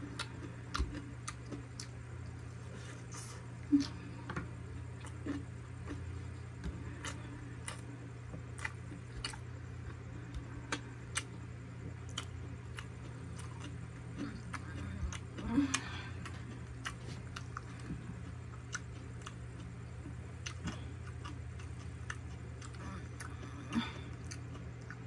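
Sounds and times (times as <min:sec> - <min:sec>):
chewing clicks: 0:00.0 - 0:02.4, 0:05.0 - 0:25.0
steady low hum: 0:00.0 - 0:25.0.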